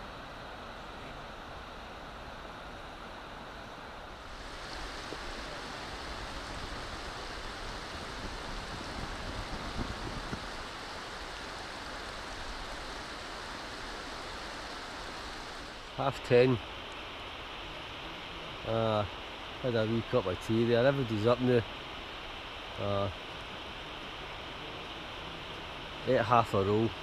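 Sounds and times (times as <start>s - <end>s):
rushing flowing water: 0.0s - 27.0s.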